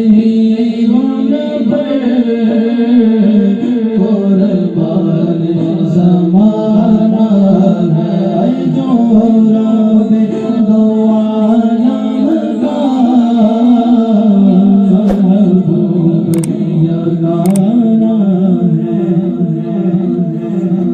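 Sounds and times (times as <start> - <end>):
man singing devotional song: 0.0 - 20.9.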